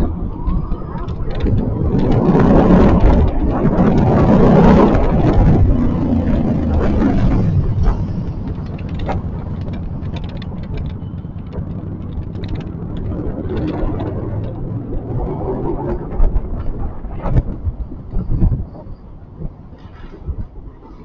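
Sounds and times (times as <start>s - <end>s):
small rattles and clicks: 0.0s - 20.4s
rumble of wheels and wind: 0.0s - 21.0s.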